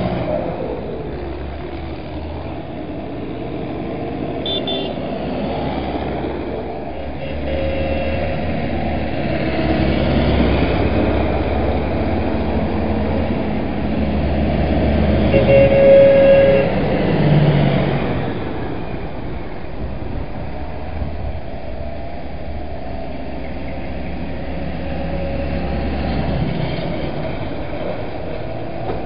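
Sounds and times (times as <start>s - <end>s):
tractor diesel engines: 0.0s - 29.0s.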